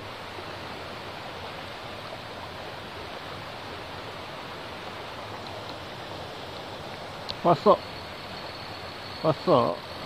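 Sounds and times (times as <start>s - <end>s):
river current rushing: 0.0s - 10.0s.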